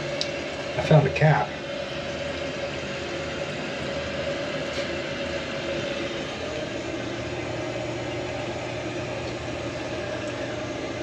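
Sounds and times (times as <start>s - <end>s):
water hissing into toilet tank: 0.0s - 11.0s.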